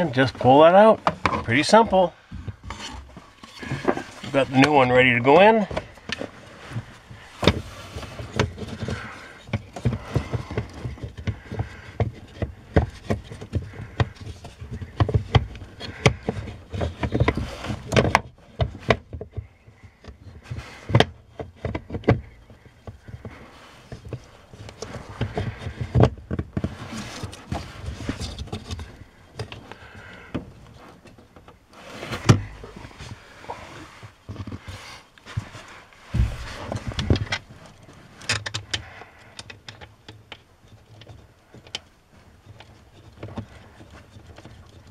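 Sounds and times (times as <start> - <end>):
rustling: 0.0 - 39.3.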